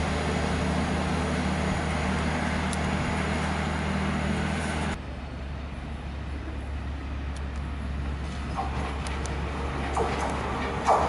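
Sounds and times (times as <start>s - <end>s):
train rumbling through station: 0.0s - 11.0s.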